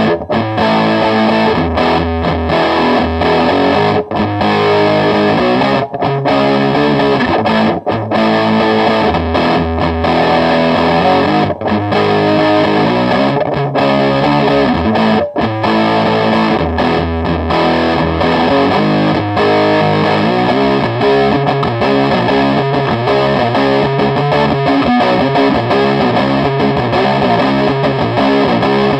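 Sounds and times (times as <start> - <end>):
distorted electric guitar riffs: 0.0 - 28.9.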